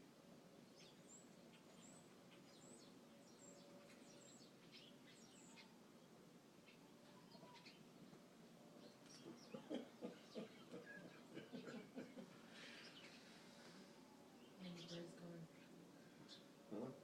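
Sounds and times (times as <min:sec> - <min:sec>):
low steady hum: 0:00.0 - 0:17.0
birds chirping: 0:00.4 - 0:17.0.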